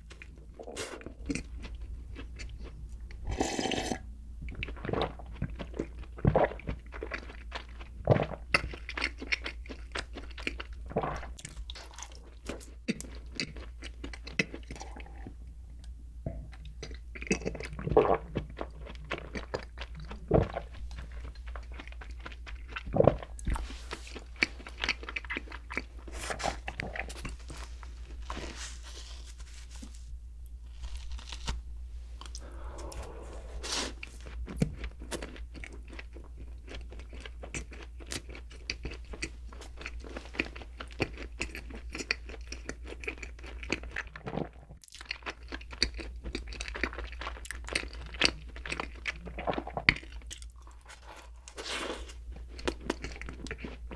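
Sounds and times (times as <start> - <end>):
doughnuts being bitten and chewed: 0.0 - 3.2, 4.5 - 15.4, 16.5 - 53.9.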